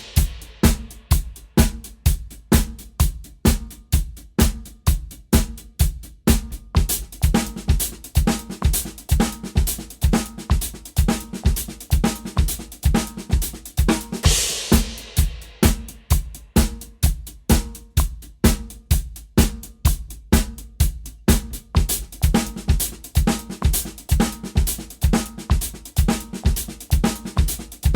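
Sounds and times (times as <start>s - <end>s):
snare and hi-hat drumming: 0.0s - 27.9s.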